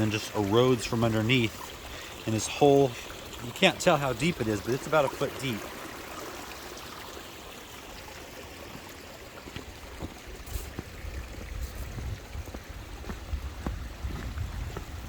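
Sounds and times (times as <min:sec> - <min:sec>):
water trickling over ground: 0:00.0 - 0:15.0.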